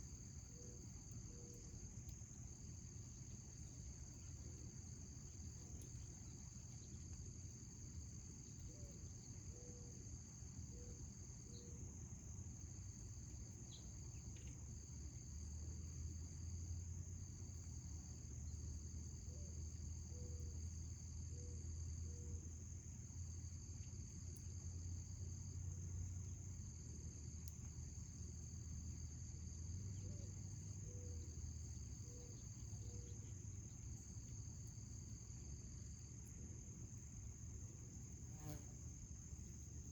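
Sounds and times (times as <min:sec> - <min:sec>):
crickets trilling: 0:00.0 - 0:39.9
lower cricket trill: 0:00.0 - 0:39.9.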